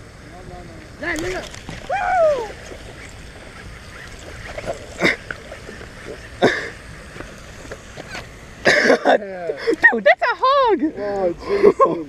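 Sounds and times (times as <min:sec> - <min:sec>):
fountain spray: 0:00.0 - 0:12.0
wind hissing: 0:00.0 - 0:12.0.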